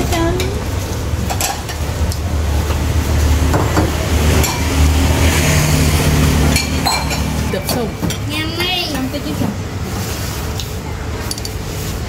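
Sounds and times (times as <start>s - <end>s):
engine running with low hum: 0.0s - 9.9s.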